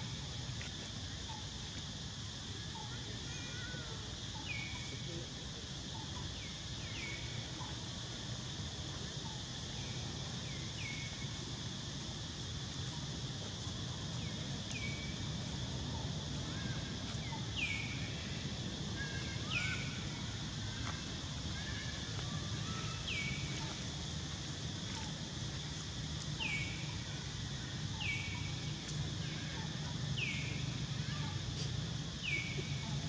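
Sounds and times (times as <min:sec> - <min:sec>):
high insect drone: 0:00.0 - 0:33.0.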